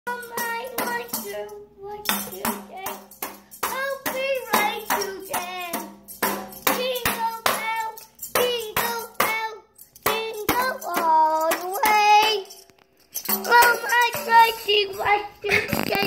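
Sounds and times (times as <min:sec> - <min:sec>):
toddler singing wordlessly: 0:00.1 - 0:12.6, 0:13.3 - 0:16.0
toy maraca shaking: 0:00.1 - 0:16.0.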